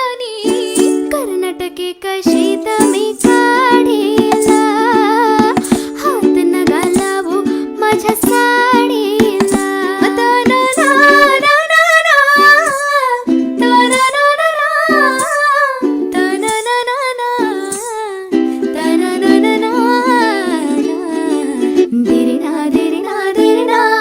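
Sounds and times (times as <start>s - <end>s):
woman singing: 0.0s - 24.0s.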